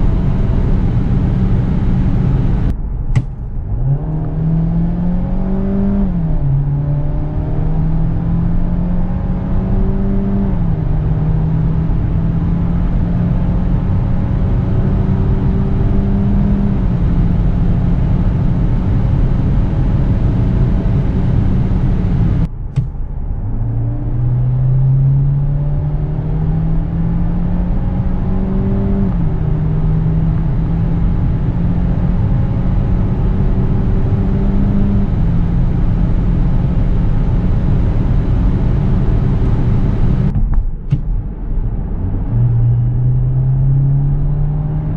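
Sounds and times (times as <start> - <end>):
car engine at full throttle: 0.0 - 44.9.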